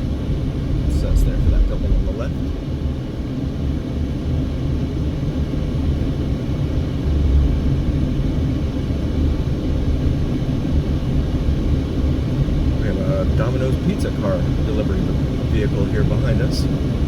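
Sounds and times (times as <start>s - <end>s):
car driving low rumble: 0.0s - 17.0s.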